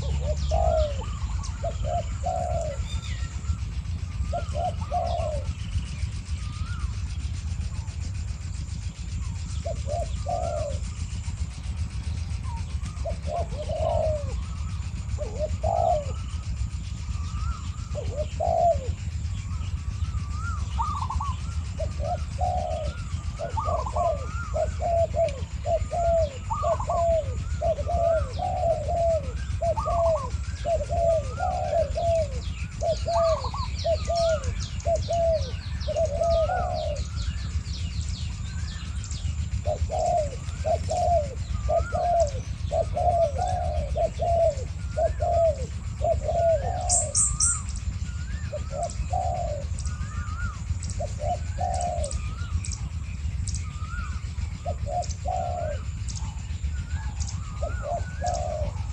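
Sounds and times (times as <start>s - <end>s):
doves cooing: 0.0s - 58.9s
low rumble: 0.0s - 58.9s
small birds chirping: 0.0s - 58.9s.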